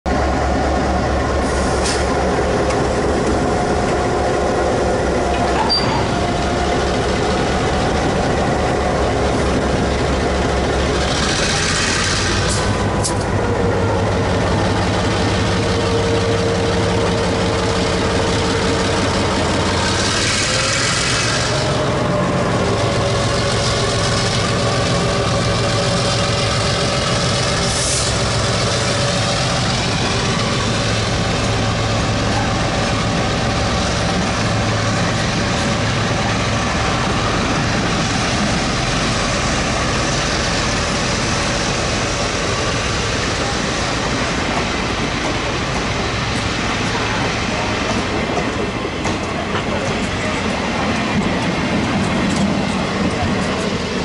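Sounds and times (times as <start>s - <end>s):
diesel locomotive engine humming: 0.0s - 54.0s
train wagons rolling past: 0.1s - 54.0s.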